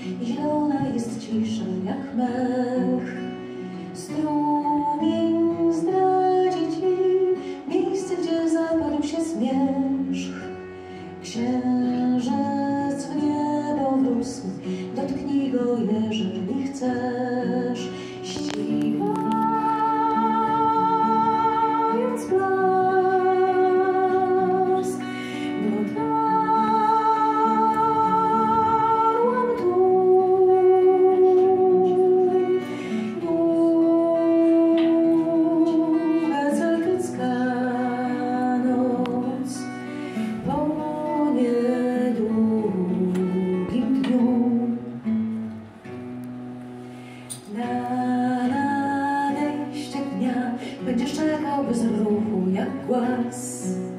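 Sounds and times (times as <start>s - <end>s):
woman singing with vibrato: 0.0s - 45.3s, 47.4s - 53.9s
acoustic guitar: 0.0s - 53.9s.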